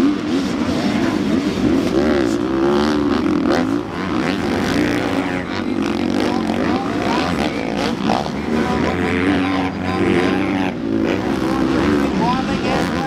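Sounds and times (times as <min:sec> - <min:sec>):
motocross engines revving: 0:00.0 - 0:13.0.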